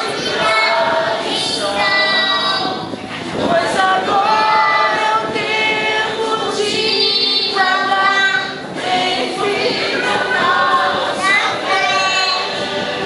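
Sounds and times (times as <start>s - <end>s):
voices singing long held notes: 0.0s - 13.0s.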